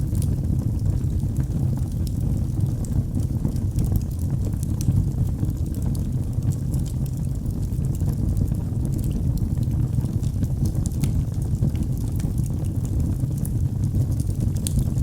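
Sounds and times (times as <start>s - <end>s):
fire crackles and pops: 0.0s - 15.0s
fire roaring in fireplace: 0.0s - 15.0s.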